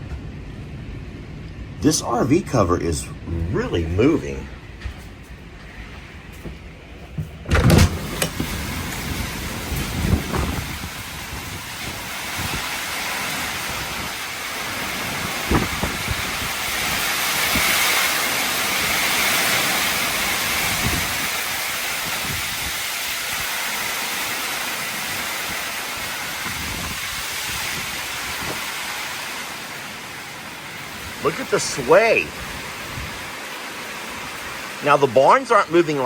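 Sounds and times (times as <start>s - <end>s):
heavy rain and wind: 0.0s - 36.0s.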